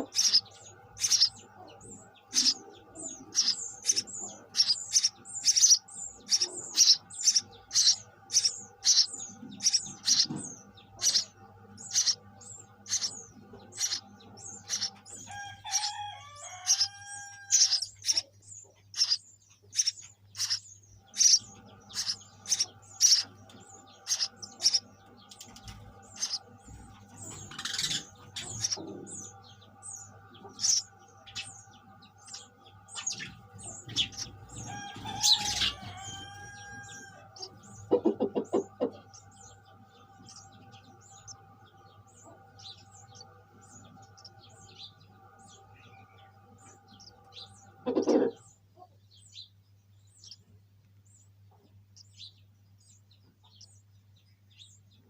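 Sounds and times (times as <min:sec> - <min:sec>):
sparrows chirping: 0:00.0 - 0:55.0
steady low hum: 0:00.0 - 0:55.0.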